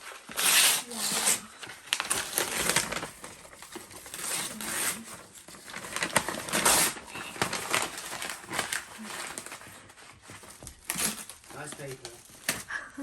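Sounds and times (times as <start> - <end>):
wrapping paper tearing and crinkling: 0.0 - 13.0.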